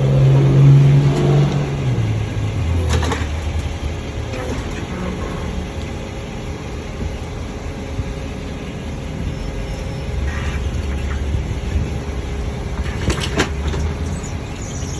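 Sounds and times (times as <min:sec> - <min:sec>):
vehicle engine rumbling: 0:00.0 - 0:14.9.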